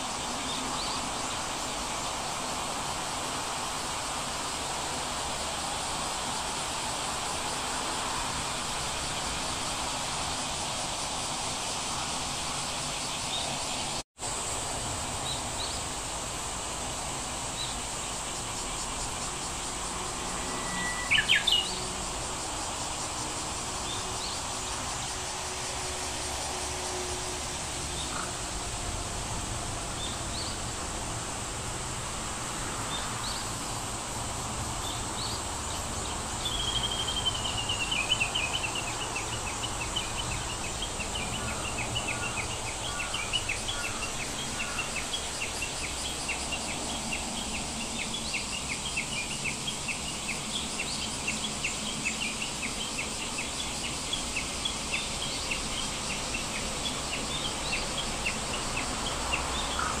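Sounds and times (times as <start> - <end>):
steady background hiss: 0.0 - 60.0.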